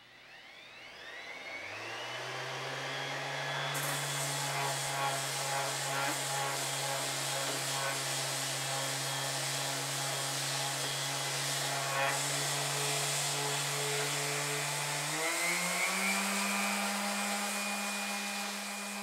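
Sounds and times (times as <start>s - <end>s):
orbital sander on steel: 1.6s - 19.0s.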